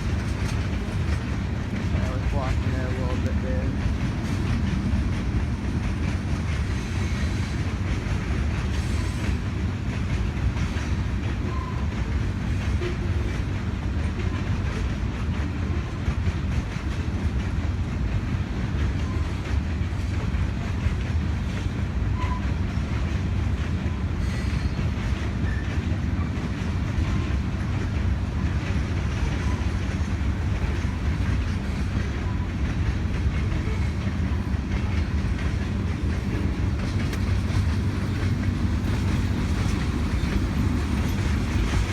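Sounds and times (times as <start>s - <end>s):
train cars rumbling past: 0.0s - 41.9s
wheels clacking over rail joints: 0.0s - 41.9s.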